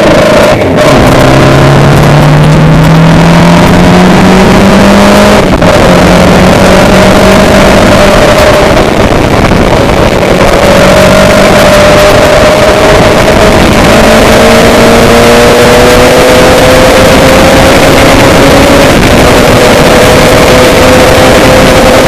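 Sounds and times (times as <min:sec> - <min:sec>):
vehicle engine accelerating: 0:00.0 - 0:22.0.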